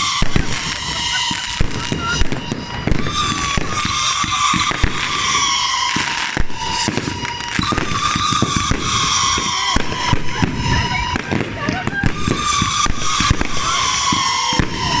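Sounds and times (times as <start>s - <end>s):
fireworks bangs and crackles: 0.0s - 15.0s
steady high whistle: 0.0s - 15.0s.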